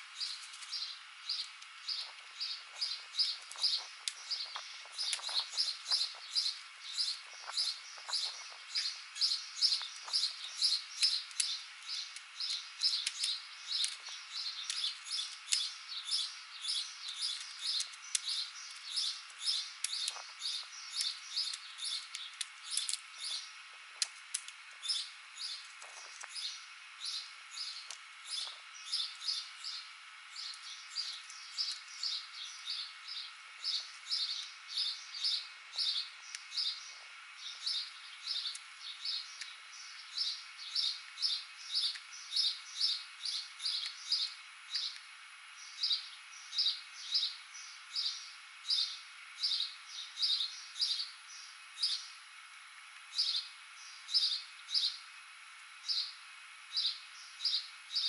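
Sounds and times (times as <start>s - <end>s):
small bird chirping: 0.0s - 23.7s, 24.4s - 52.2s, 53.1s - 55.1s, 55.8s - 58.0s.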